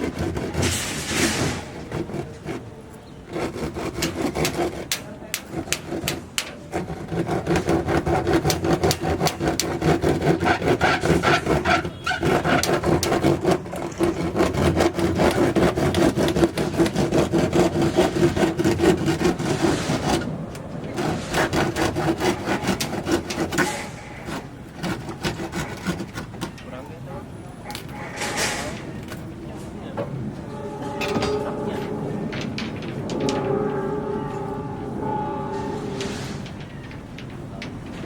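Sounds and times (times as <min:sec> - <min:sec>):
hand tool scraping strokes: 0:00.0 - 0:26.8, 0:27.7 - 0:29.2, 0:30.5 - 0:38.0.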